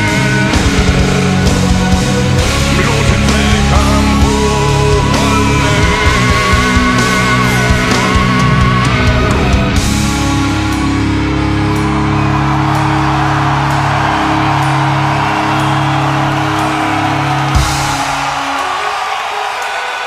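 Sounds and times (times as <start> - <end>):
live heavy metal music: 0.0 - 20.0.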